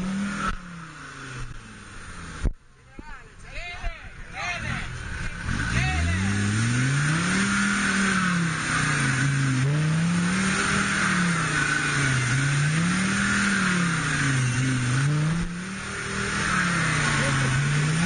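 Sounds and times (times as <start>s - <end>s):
car engine revving: 0.0s - 2.6s, 3.3s - 18.0s.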